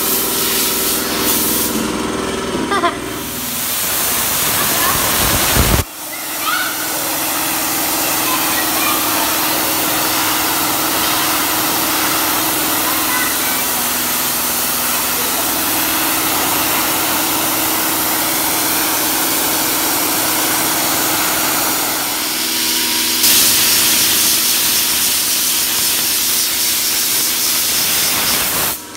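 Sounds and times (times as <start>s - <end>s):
compressed air hissing: 0.0s - 1.8s, 3.2s - 5.8s, 6.8s - 28.9s.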